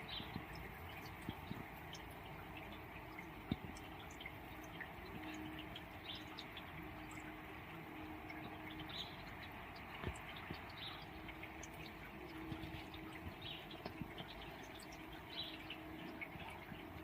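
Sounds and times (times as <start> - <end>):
steady rain: 0.0 - 17.0
water drips: 0.0 - 17.0.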